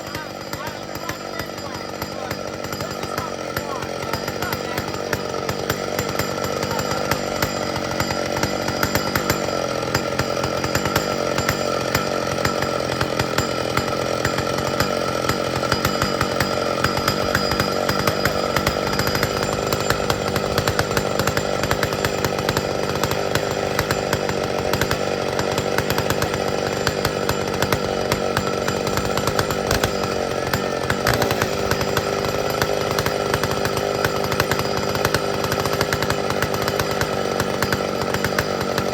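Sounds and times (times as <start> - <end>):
chainsaw running at high speed: 0.0 - 38.9.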